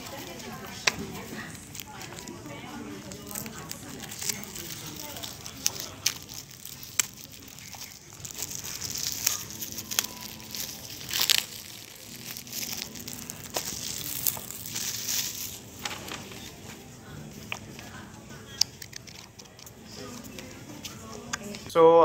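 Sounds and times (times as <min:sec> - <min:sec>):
plastic wrapping crinkling: 0:00.0 - 0:21.3.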